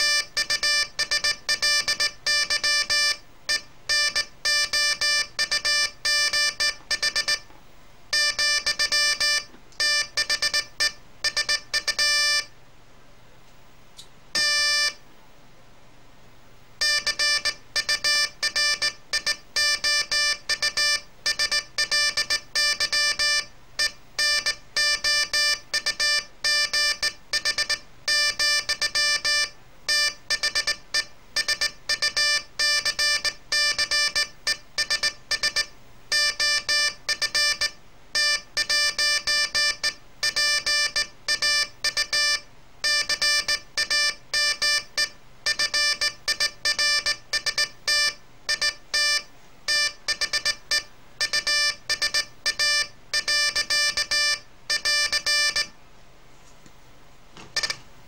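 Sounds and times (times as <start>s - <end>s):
buzzy morse code tone: 0.0s - 7.4s, 8.1s - 12.5s, 14.4s - 15.0s, 16.8s - 55.7s, 57.6s - 57.8s.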